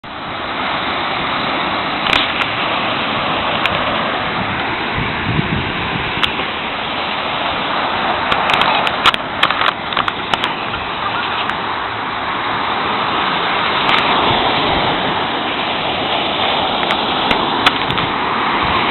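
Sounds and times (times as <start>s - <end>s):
surf breaking on shore: 0.0s - 18.9s.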